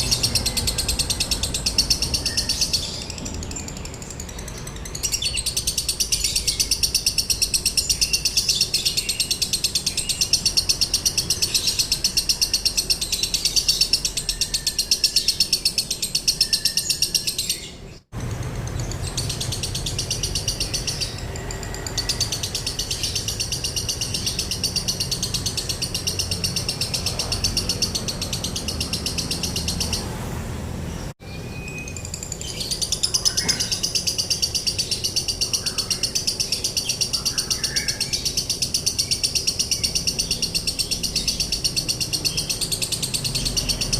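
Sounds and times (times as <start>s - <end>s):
lovebird chattering trill: 0.0s - 30.2s, 31.6s - 43.9s.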